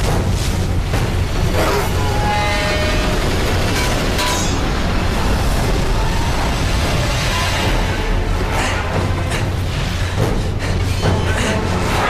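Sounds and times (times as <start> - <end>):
tornado wind rumbling: 0.0 - 12.0
whooshing gusts: 0.0 - 12.0.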